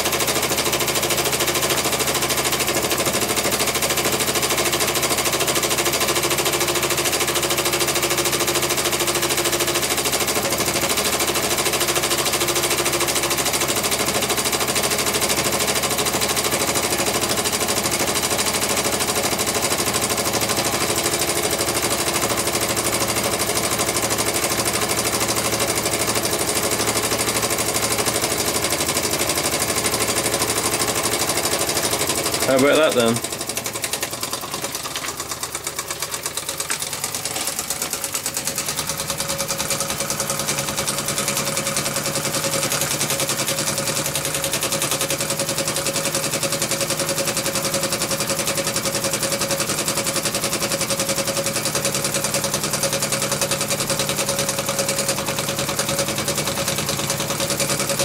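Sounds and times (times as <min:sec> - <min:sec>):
toy steam engine running fast: 0:00.0 - 0:58.0.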